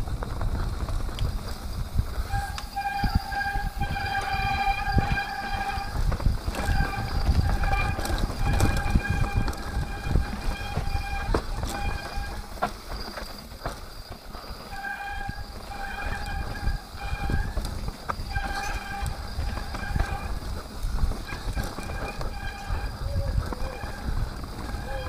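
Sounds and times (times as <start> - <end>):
bicycle freewheel hub buzzing: 0.0 - 25.0
bike rumbling and rattling on dirt: 0.0 - 25.0.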